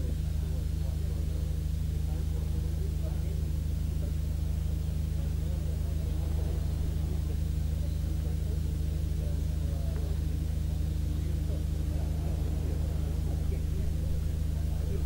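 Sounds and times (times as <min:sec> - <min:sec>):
faint indistinct voices: 0:00.0 - 0:15.0
steady low hum: 0:00.0 - 0:15.0.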